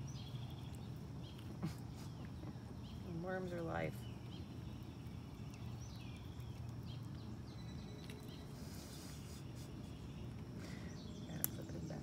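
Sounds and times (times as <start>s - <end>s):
distant bird chirps: 0.0s - 12.0s.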